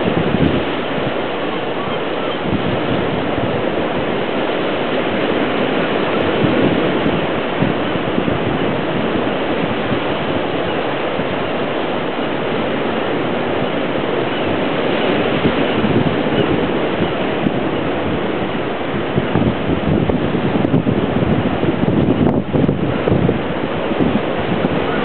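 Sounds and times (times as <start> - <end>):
surf breaking over rocks: 0.0 - 25.0.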